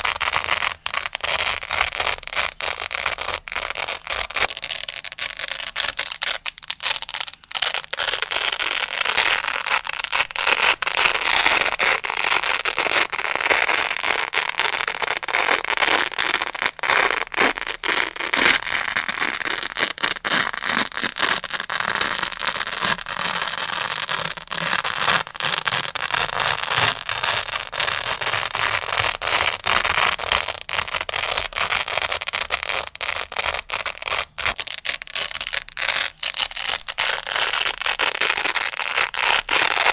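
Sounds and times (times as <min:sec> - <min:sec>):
velcro crackling and tearing: 0:00.0 - 0:39.9.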